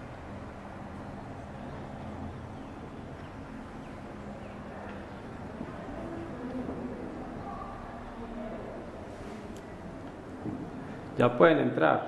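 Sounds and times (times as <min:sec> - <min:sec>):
low outdoor rumble: 0:00.0 - 0:11.2
faint hum: 0:00.0 - 0:12.0.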